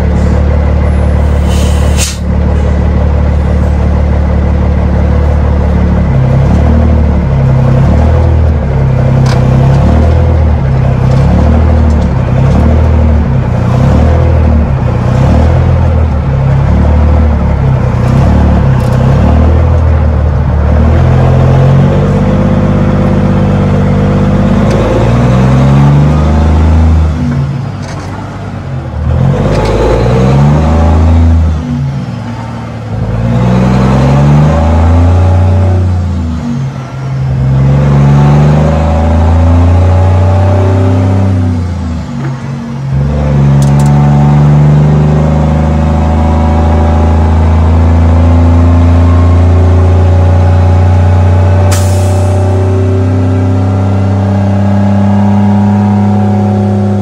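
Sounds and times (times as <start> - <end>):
diesel truck engine accelerating: 0.0 - 57.0.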